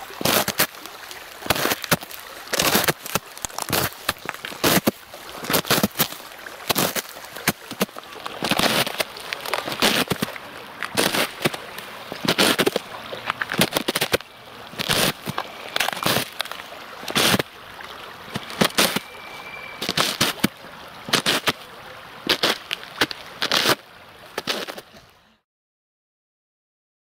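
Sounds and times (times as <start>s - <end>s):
footsteps crunching on ice: 0.0s - 17.5s, 18.3s - 19.2s, 19.8s - 20.5s, 21.1s - 21.6s, 22.2s - 23.8s, 24.4s - 24.8s.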